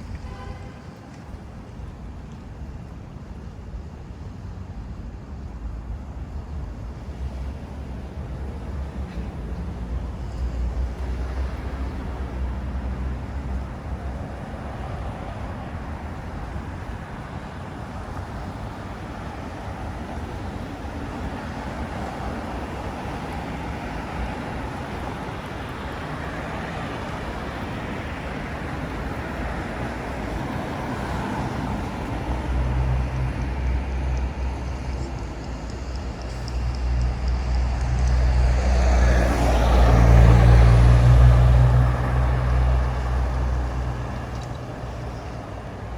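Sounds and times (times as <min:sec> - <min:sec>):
street traffic: 0:00.0 - 0:45.9
low engine rumble: 0:06.4 - 0:45.9.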